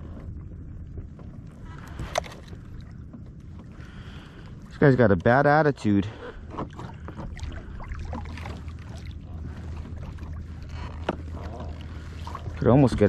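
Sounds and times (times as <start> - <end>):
low steady rumble: 0.0 - 13.0
water lapping against kayak hull: 0.0 - 13.0.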